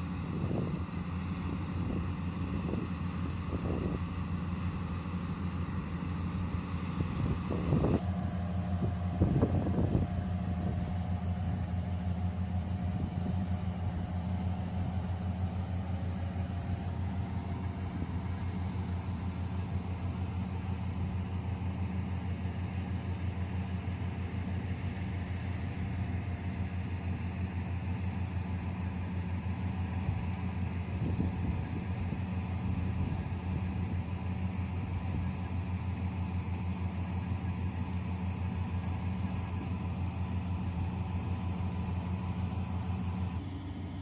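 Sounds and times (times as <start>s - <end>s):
combine harvester engine humming: 0.0s - 44.0s.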